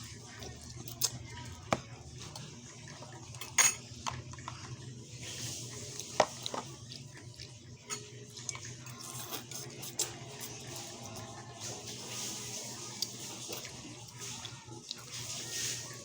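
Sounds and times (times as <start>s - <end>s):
utensils clinking against a bowl: 0.3s - 16.0s.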